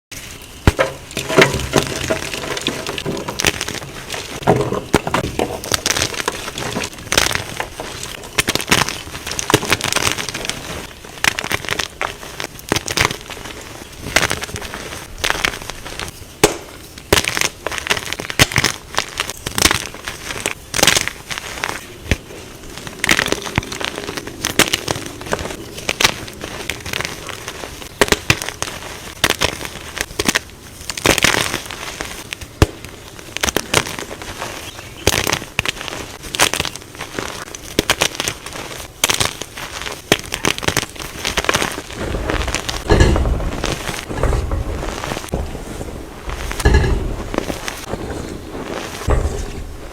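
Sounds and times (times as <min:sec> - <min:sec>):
crumbly material crunching: 0:00.1 - 0:49.9.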